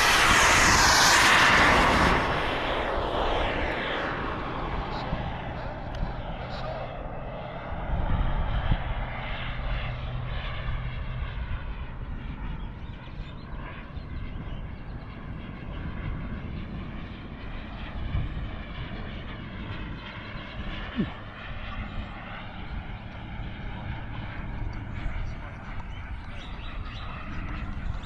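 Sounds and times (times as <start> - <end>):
model jet turbine whine: 0.0 - 28.0
wind rumble on microphone: 0.0 - 28.0.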